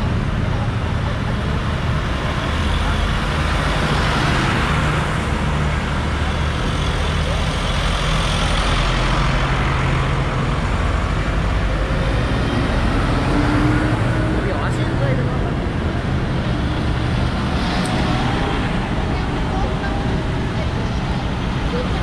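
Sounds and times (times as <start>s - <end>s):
tractor engines driving past: 0.0s - 22.0s
tyre and road noise: 0.0s - 22.0s.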